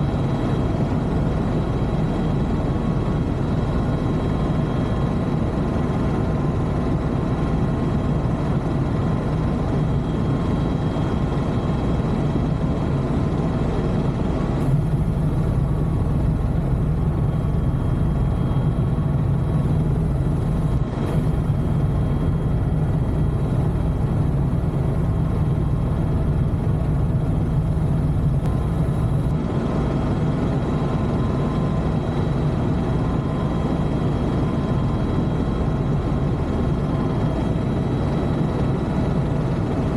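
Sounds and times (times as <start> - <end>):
faint steady whine: 0.0 - 39.9
helicopter engine and rotor drone: 0.0 - 39.9.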